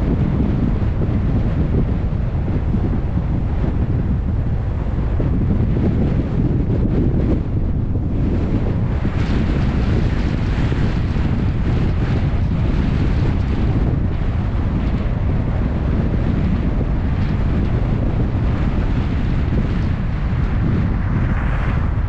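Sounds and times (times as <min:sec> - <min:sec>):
low rumble of road noise: 0:00.0 - 0:22.0
wind buffeting microphone: 0:00.0 - 0:22.0.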